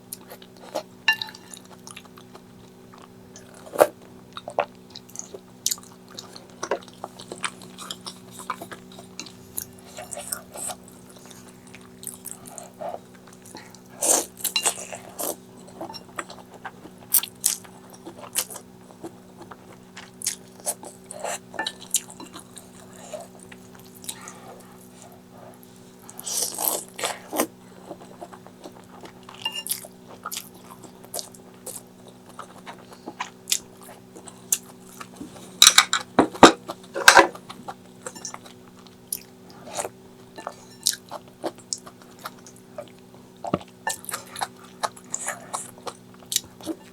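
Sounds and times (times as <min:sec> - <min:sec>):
steady low hum: 0:00.0 - 0:46.9
wet chewing and crunching: 0:00.1 - 0:46.9.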